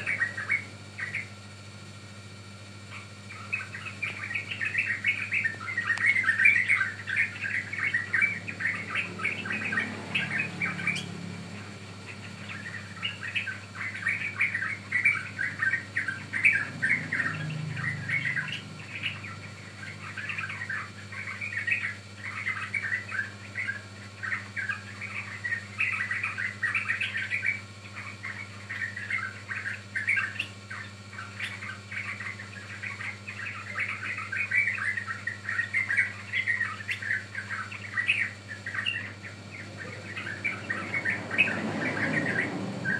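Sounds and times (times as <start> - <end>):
bird chattering song: 0.0 - 42.9.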